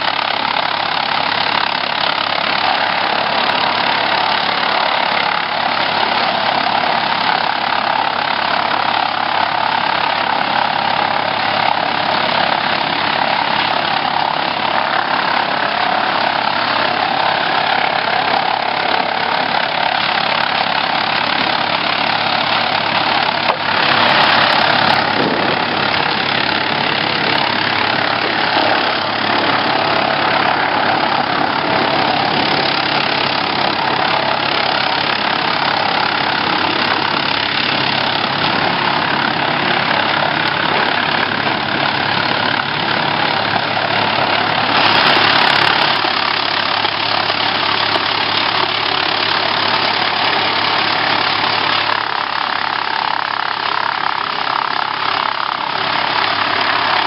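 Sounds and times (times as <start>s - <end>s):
wood chipper running: 0.0s - 57.0s.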